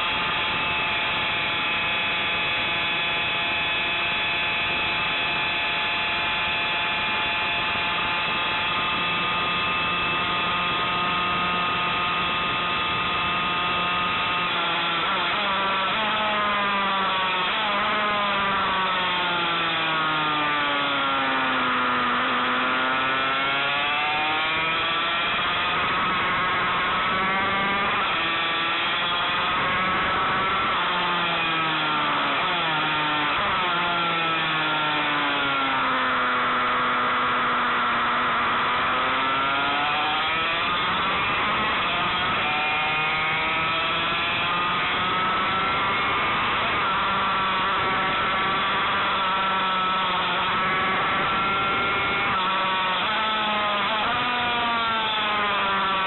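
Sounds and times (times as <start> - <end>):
two-stroke racing engine: 0.0 - 56.0.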